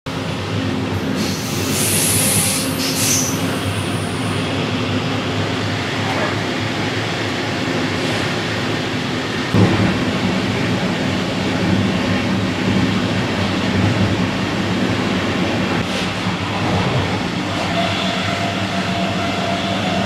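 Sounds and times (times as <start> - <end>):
train coach rumbling on track: 0.1 - 20.0.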